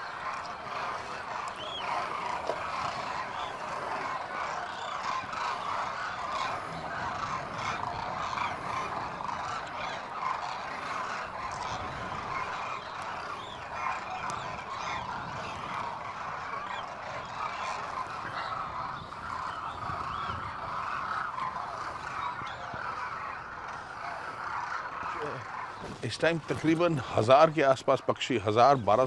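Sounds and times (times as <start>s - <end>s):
flock of cranes calling: 0.0s - 29.0s.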